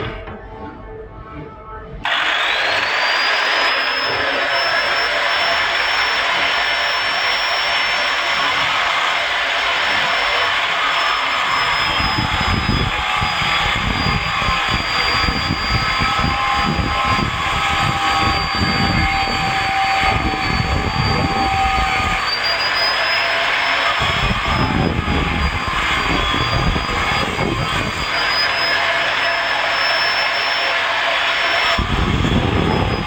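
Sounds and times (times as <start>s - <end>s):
angle grinder whining and grinding: 1.7s - 33.0s.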